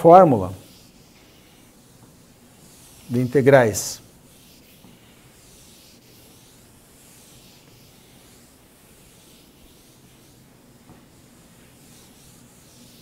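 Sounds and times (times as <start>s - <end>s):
eraser rubbing on chalkboard: 0.0s - 13.0s.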